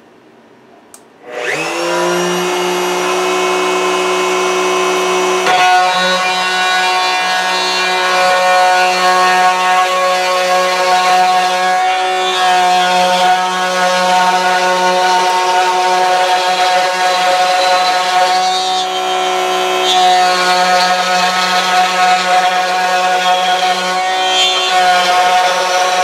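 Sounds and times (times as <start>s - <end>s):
router whining: 1.2s - 26.0s.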